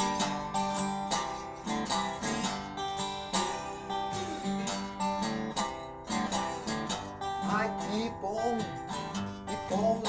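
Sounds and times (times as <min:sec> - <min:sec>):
blues band playing: 0:00.0 - 0:10.0.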